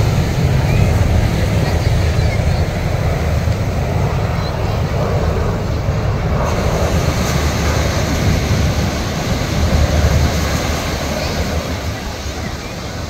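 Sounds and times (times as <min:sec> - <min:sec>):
deep beachfront rumble: 0:00.0 - 0:13.0.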